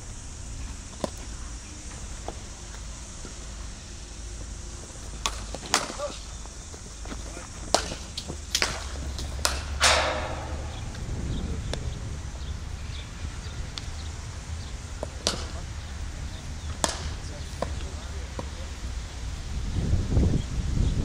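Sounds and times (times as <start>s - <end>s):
low steady rumble: 0.0s - 21.0s
cricket balls hitting bats: 0.4s - 19.2s.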